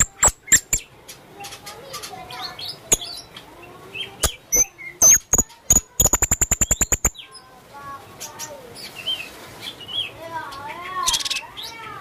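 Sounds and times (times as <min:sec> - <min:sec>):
songbird chirps and trill: 0:00.0 - 0:12.0.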